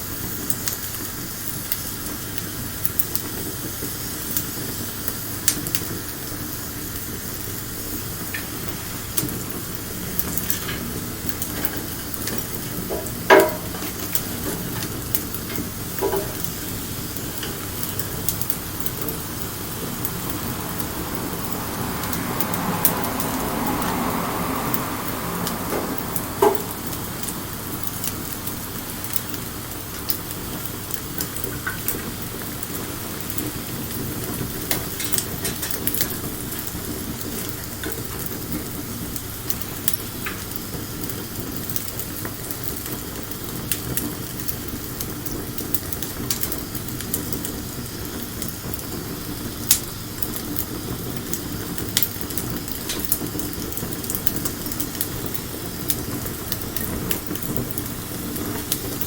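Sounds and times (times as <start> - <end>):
bonfire crackling: 0.0 - 59.0
steady hiss: 0.0 - 59.0
sharp pops of fire: 8.2 - 23.8, 25.7 - 59.0.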